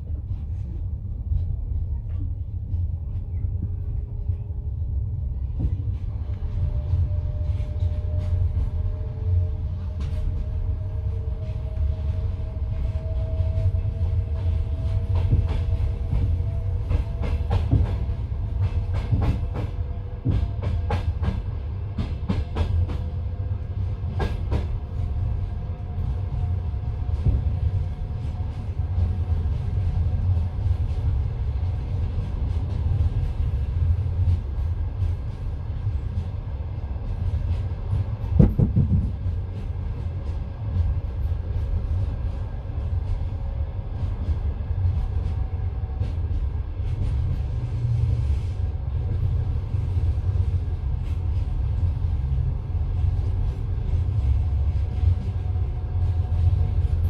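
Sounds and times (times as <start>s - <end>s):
train rumble inside carriage: 0.0s - 57.0s.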